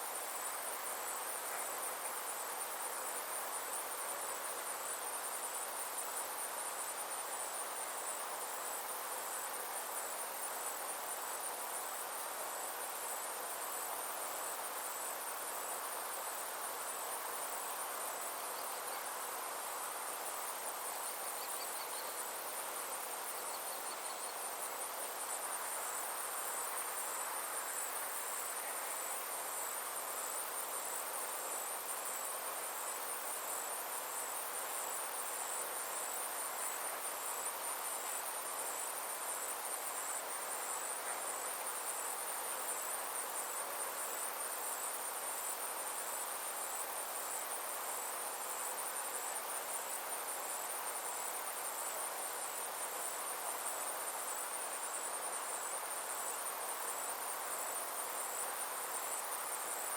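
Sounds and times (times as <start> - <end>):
insects trilling: 0.0 - 59.9
soft hiss: 0.0 - 59.9.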